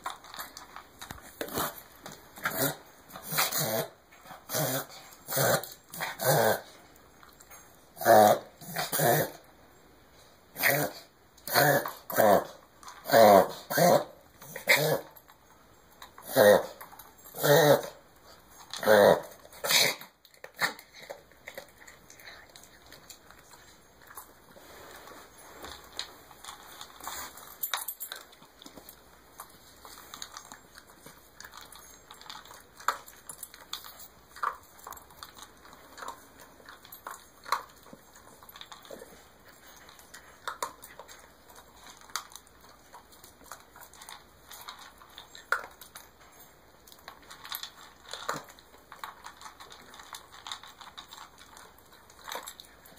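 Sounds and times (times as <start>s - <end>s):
faint clicks and movement: 0.0s - 52.9s.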